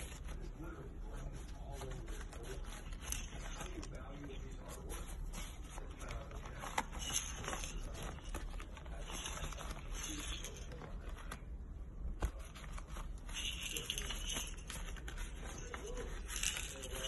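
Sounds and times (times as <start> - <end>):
rustling crinkly packaging: 0.0 - 17.0.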